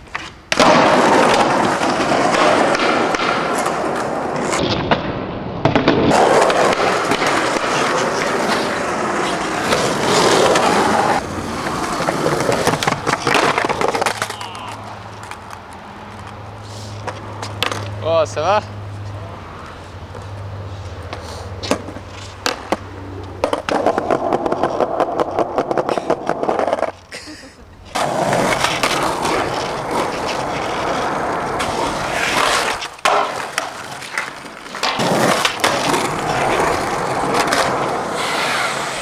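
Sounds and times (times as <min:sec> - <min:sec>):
skateboard clacks: 0:00.0 - 0:16.4, 0:17.0 - 0:18.0, 0:21.1 - 0:27.1, 0:27.8 - 0:39.0
skateboard wheels rolling: 0:00.0 - 0:39.0.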